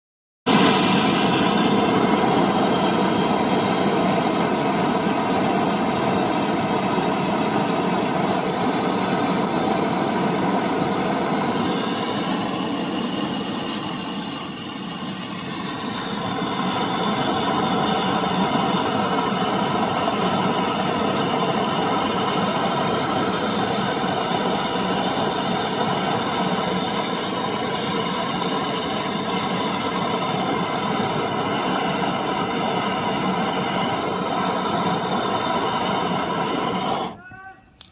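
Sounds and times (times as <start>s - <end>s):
gas torch hissing: 0.5s - 37.9s.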